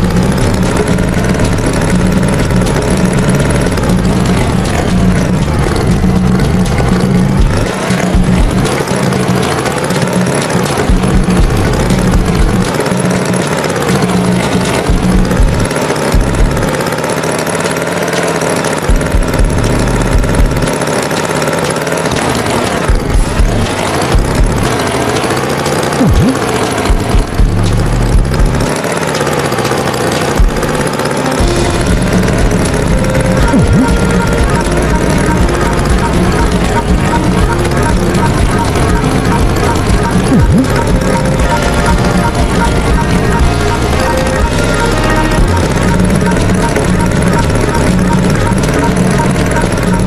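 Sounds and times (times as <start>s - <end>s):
tractor engine chugging: 0.0s - 50.0s.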